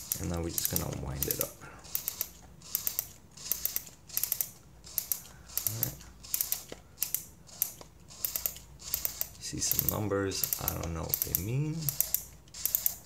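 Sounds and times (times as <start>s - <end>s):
camera film-advance ratchet clicking: 0.0s - 13.0s.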